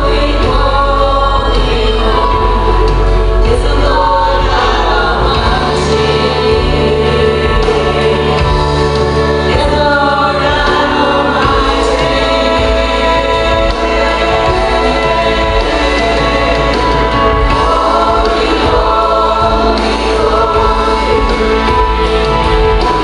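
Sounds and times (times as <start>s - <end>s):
boy and woman singing: 0.0s - 23.0s
musical accompaniment: 0.0s - 23.0s.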